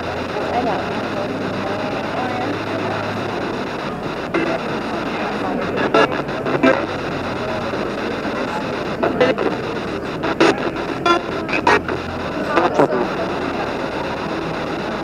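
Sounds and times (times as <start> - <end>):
choppy bursts of broadcast sound: 0.0 - 15.0
radio static hiss: 0.0 - 15.0.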